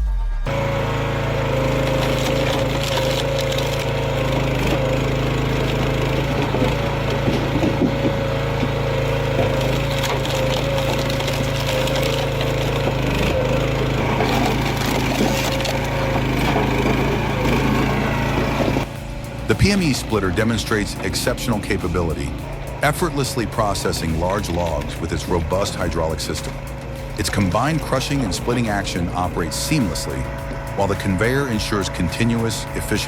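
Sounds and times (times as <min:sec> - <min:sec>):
hydraulic log splitter humming: 0:00.0 - 0:33.0
logs cracking and splintering: 0:01.4 - 0:18.9, 0:19.5 - 0:33.0.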